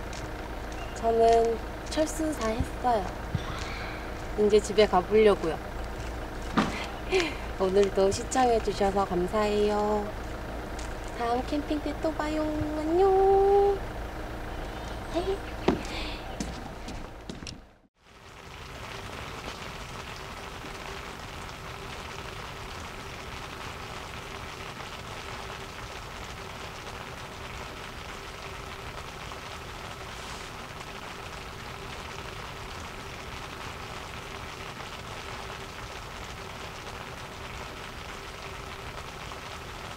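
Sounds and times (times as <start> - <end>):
heavy rain on a tent: 0.0 - 16.4, 18.0 - 39.9
faint steady hum: 0.0 - 39.9.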